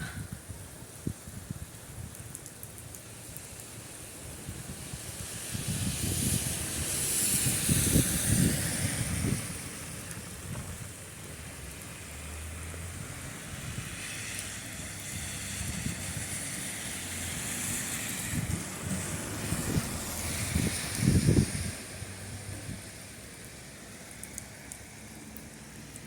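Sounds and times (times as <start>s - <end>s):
wind gusting on microphone: 0.0s - 2.5s, 3.3s - 12.2s, 12.8s - 23.2s
rain falling: 0.4s - 26.0s.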